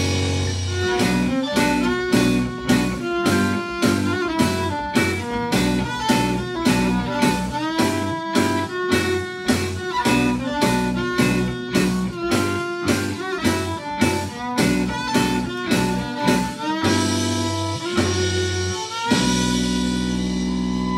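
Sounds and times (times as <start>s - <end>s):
fiddle playing blues melody: 0.0s - 20.9s
guitar accompaniment: 0.0s - 20.9s.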